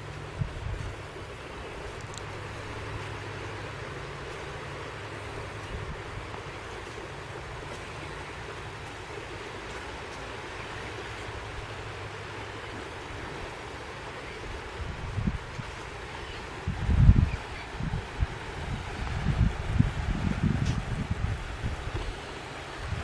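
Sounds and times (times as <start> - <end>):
surf on shoreline: 0.0 - 23.0
wind: 0.0 - 23.0.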